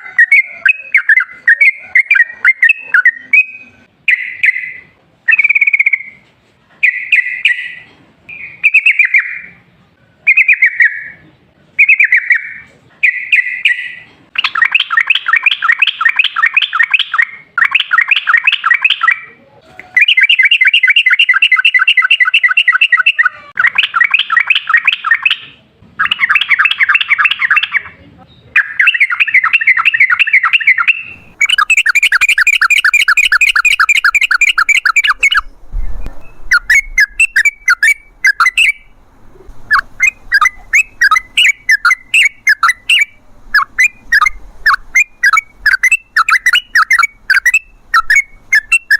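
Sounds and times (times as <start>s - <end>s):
bird singing loudly: 0.0s - 6.2s, 6.8s - 9.5s, 10.3s - 11.2s, 11.8s - 19.3s, 20.0s - 48.9s.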